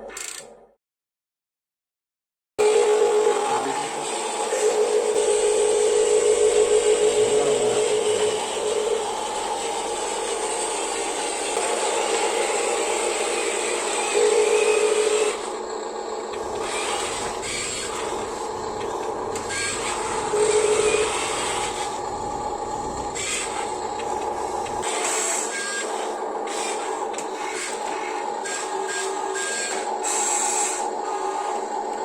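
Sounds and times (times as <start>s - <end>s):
toy excavator motors whining: 0.0s - 0.5s, 2.7s - 32.0s.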